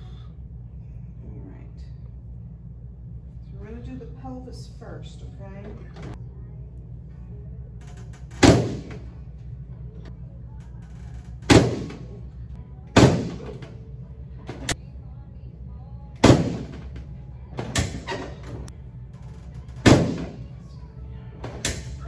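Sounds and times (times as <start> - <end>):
quiet background music: 0.0 - 22.0.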